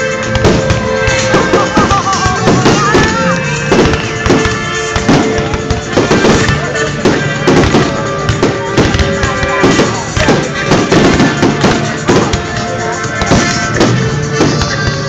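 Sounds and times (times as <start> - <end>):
firework shells bursting: 0.0 - 15.0
loud music: 0.0 - 15.0.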